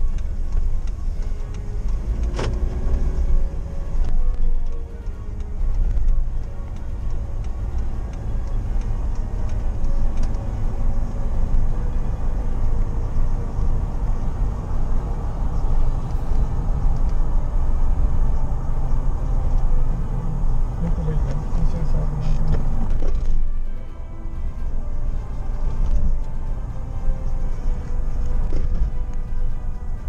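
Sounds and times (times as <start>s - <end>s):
vehicle road and engine noise: 0.0s - 30.0s.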